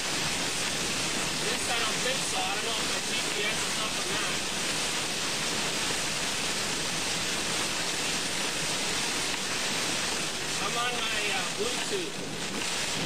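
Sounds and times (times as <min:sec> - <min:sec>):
heavy rain on a car: 0:00.0 - 0:13.0
strong wind buffeting a car: 0:00.0 - 0:13.0.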